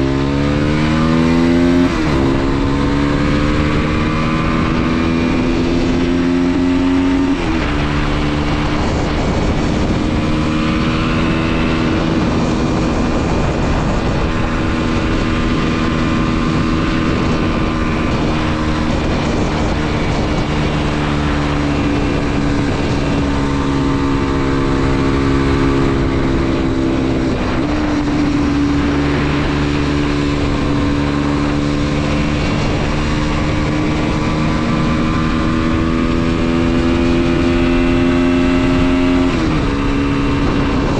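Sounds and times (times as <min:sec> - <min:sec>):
motorcycle engine running: 0:00.0 - 0:40.9
wind noise: 0:00.0 - 0:40.9.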